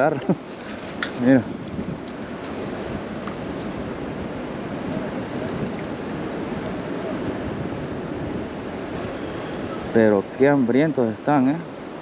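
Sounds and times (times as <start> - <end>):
wind on microphone: 0.0 - 10.6
river water rushing: 0.0 - 12.0.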